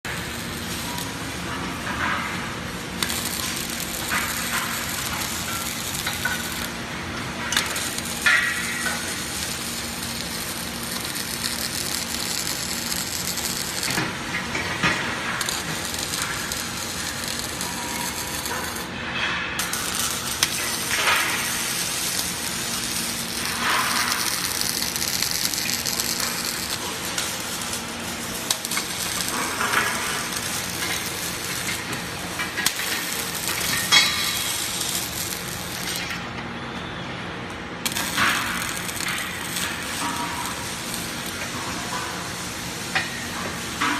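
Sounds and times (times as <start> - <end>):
welding arc crackling and sizzling: 0.0 - 36.6, 37.5 - 43.9
sharp welding pops: 0.1 - 18.9, 19.6 - 36.2, 37.8 - 43.9.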